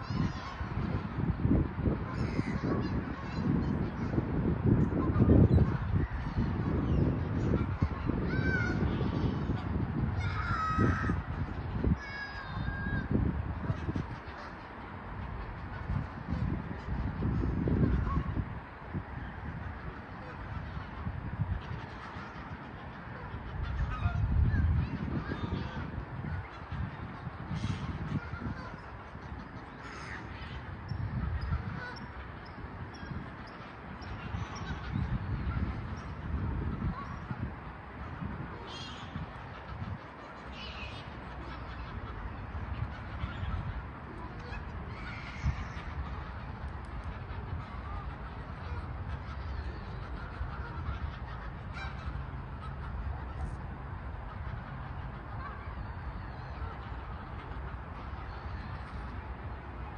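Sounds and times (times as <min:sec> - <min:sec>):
low rumbling noise: 0:00.0 - 0:59.9
geese honking: 0:04.8 - 0:59.9.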